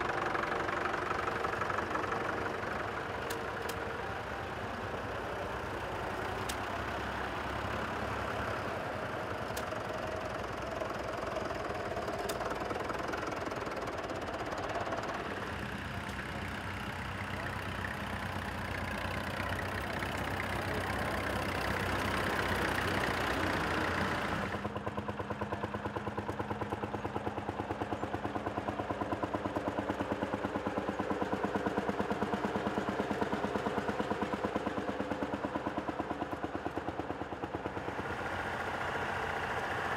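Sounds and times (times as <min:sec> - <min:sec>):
tractor engine chugging: 0:00.0 - 0:39.9
tractor engines running: 0:00.0 - 0:39.9.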